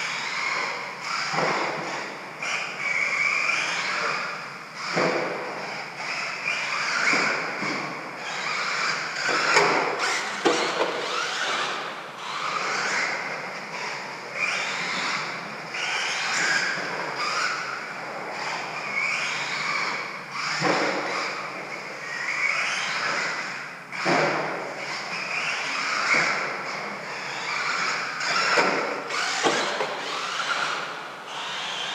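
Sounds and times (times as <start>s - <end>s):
rc truck motor whining: 0.0s - 31.9s.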